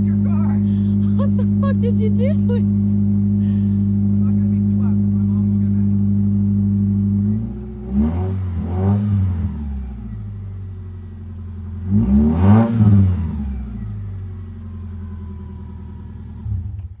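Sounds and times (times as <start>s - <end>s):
pickup engine idling and revving: 0.0s - 17.0s.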